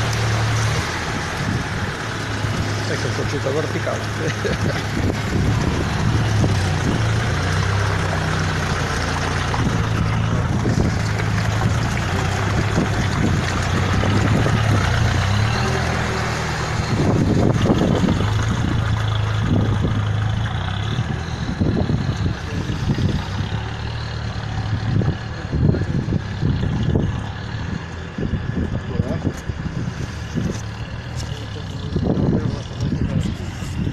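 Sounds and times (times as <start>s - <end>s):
off-road vehicle engine at low revs: 0.0s - 33.9s.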